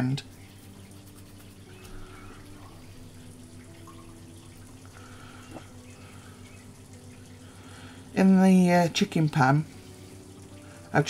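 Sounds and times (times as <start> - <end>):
oil sizzling and bubbling: 0.0 - 11.0.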